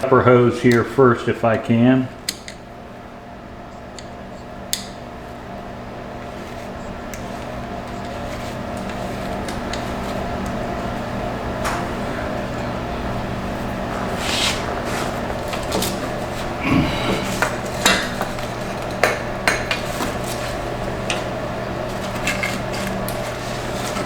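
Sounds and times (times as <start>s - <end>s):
machine hum: 0.0s - 24.0s.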